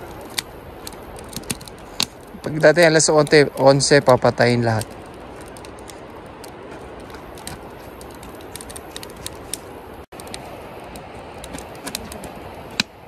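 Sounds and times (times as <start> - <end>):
campfire crackling and popping: 0.0 - 13.0
steady fire hiss: 0.0 - 13.0.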